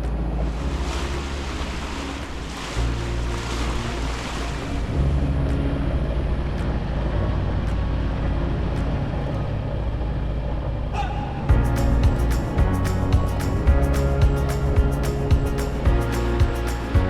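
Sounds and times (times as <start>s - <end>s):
diesel engine droning: 0.0s - 16.9s.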